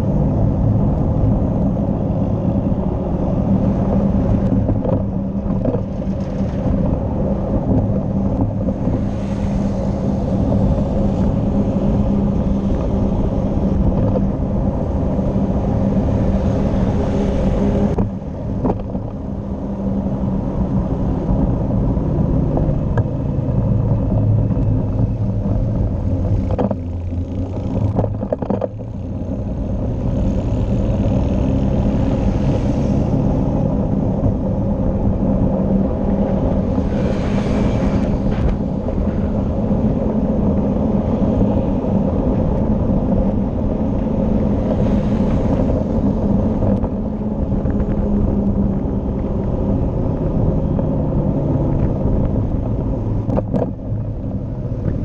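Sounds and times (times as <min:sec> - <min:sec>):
vehicle engine running: 0:00.0 - 0:55.0
vehicles passing by: 0:00.0 - 0:55.0
wind and tyre noise: 0:00.0 - 0:55.0.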